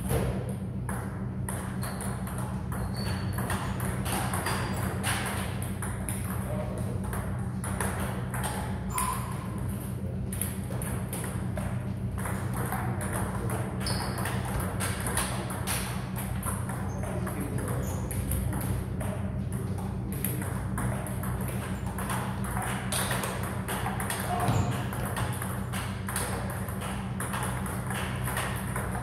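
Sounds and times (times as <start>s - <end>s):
steady low hum: 0.0s - 29.0s
ping pong ball clicking off bats: 0.8s - 29.0s.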